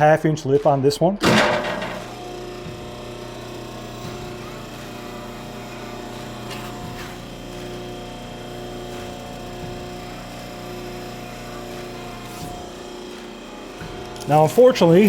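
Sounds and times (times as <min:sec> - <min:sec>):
electrical hum: 0:01.2 - 0:15.0.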